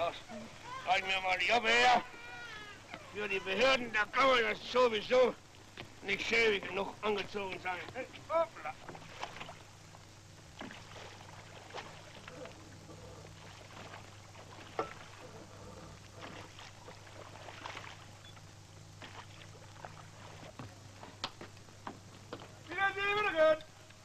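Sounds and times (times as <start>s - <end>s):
steady low hum: 0.0s - 24.0s
water splashing around boats: 0.0s - 24.0s.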